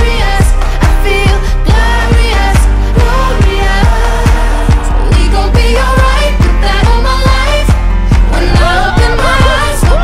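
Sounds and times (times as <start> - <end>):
pop song: 0.0 - 10.0.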